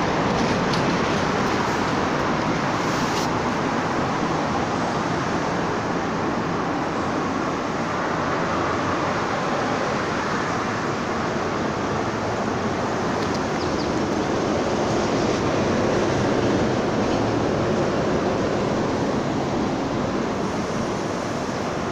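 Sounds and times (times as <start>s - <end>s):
steady rushing road traffic: 0.0s - 21.9s.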